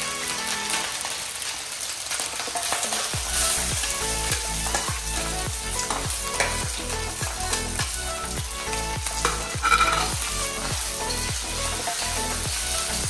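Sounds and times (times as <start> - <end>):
rice and egg sizzling in a wok: 0.0 - 13.0
metal spatula scraping a pan: 2.2 - 13.0.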